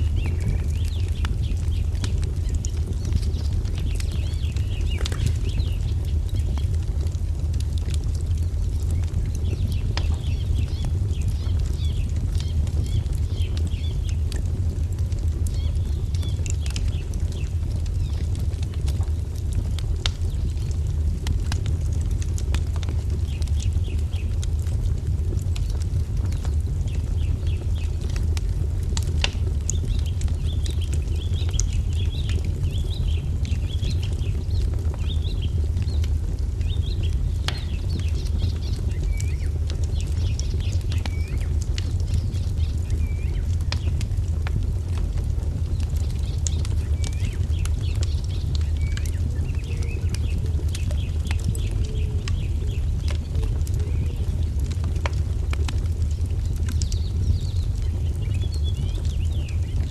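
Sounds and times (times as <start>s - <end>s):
small birds chirping: 0.0s - 59.9s
wood fire crackling: 0.0s - 59.9s.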